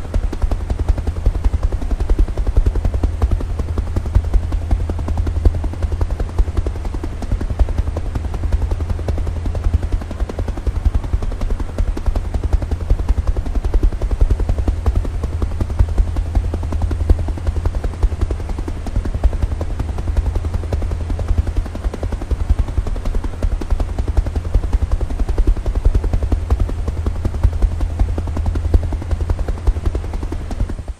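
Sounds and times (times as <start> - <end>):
helicopter rotor running: 0.0 - 30.9.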